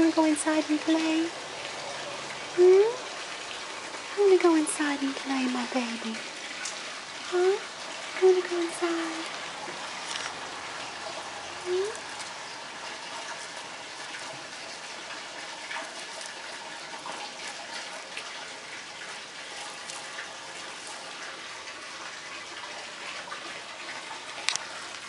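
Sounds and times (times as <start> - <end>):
running splashing water: 0.0 - 25.0.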